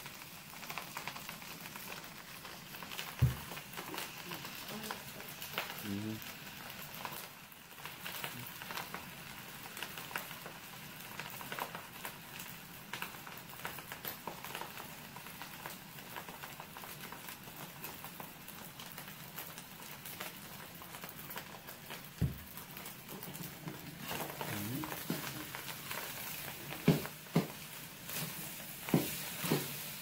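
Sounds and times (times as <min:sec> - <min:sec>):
rice sizzling in a wok: 0:00.0 - 0:30.0.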